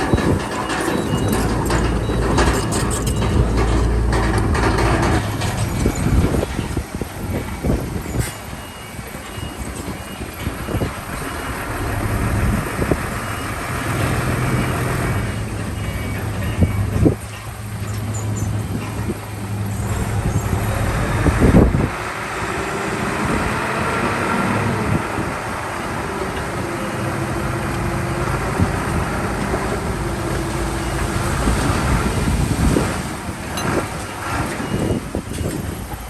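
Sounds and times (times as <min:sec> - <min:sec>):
heavy diesel machinery running: 0:00.0 - 0:36.0.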